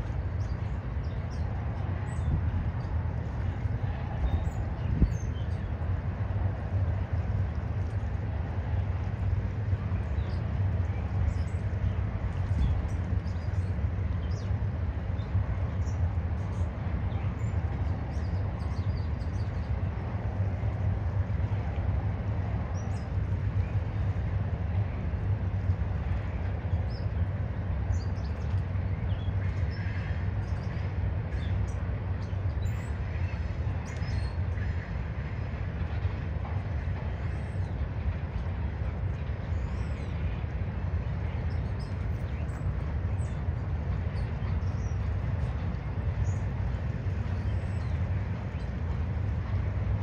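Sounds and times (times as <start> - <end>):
distant freight train rumble: 0.0 - 50.0.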